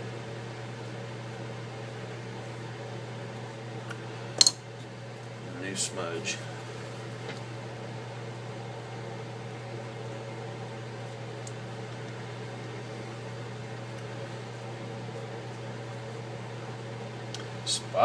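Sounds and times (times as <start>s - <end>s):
fan humming with hiss: 0.0s - 18.0s.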